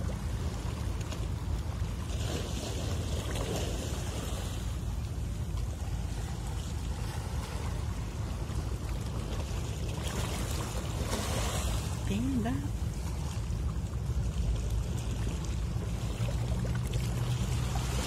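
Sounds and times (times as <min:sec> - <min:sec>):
boat low rumble: 0:00.0 - 0:18.0
water noise: 0:00.0 - 0:18.0
wind: 0:00.0 - 0:18.0.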